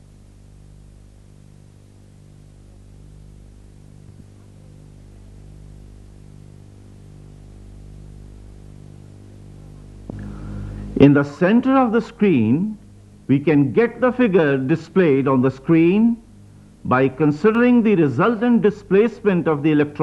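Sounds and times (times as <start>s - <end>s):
background hiss: 0.0s - 20.0s
low electrical hum: 0.0s - 20.0s.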